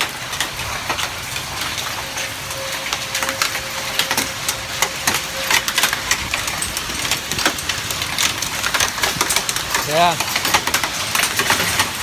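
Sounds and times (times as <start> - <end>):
hailstones hitting hard surfaces: 0.0 - 12.0
steady hiss of rain: 0.0 - 12.0.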